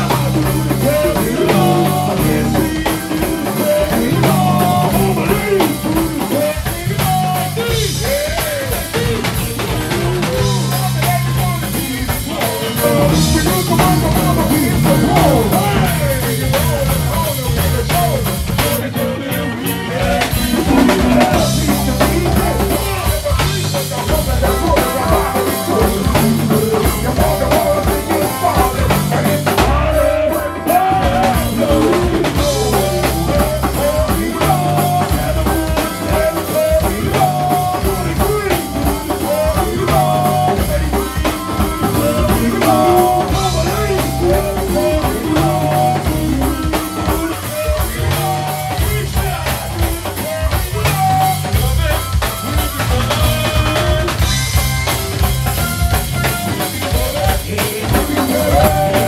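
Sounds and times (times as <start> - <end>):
bass line: 0.0 - 59.0
drum kit beat: 0.0 - 59.0
electric guitar: 0.0 - 59.0
voices on microphones: 0.0 - 59.0.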